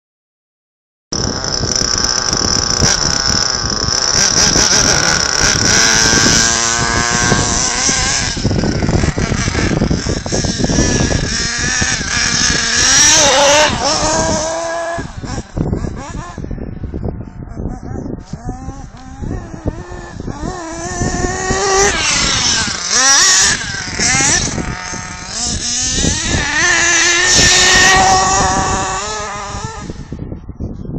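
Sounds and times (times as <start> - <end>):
rc car engine revving: 1.2 - 16.5, 17.4 - 30.2.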